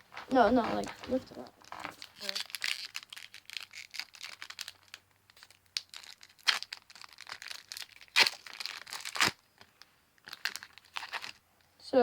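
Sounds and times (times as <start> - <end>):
foil wrapper crinkling and tearing: 0.1 - 11.4.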